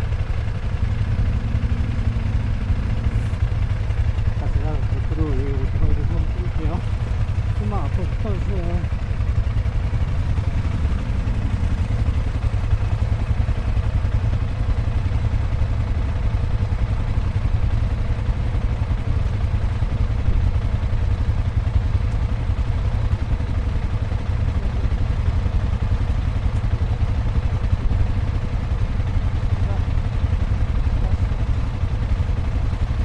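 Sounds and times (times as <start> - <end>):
motorcycle engine running steadily: 0.0 - 33.0.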